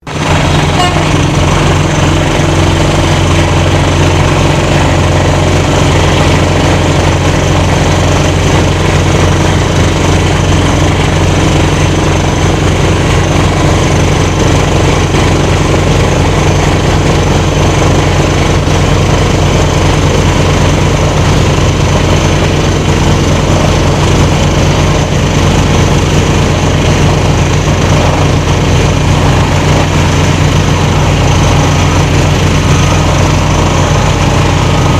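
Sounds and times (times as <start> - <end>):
heavy machinery humming and rattling: 0.0 - 34.9.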